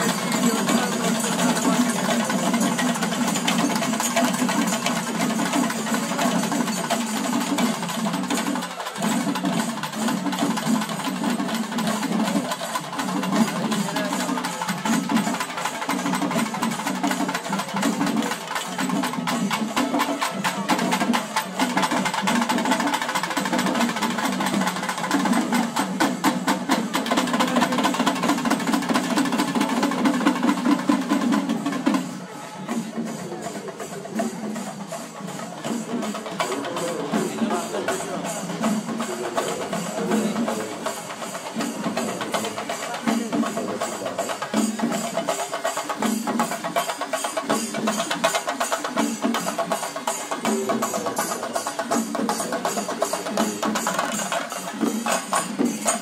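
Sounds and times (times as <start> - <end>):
drums beaten fast: 0.0 - 56.0.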